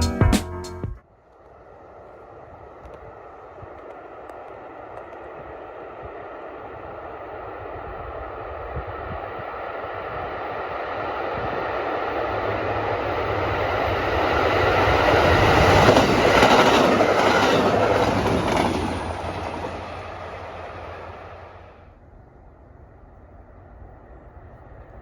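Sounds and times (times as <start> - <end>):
train wheels rumbling on rails: 1.2 - 21.8.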